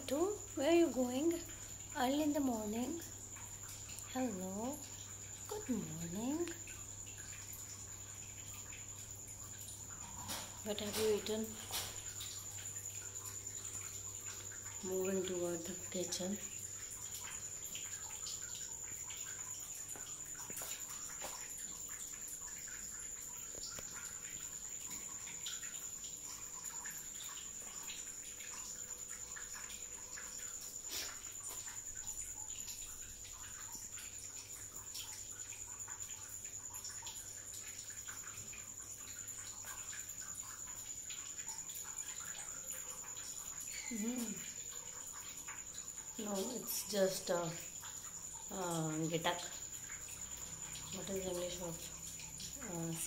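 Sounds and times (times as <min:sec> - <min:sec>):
faint ticks: 0:00.0 - 0:53.0.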